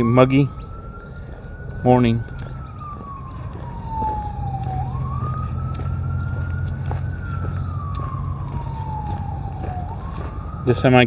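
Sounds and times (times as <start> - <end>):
low hum: 0.0 - 11.0
siren wailing: 0.0 - 11.0.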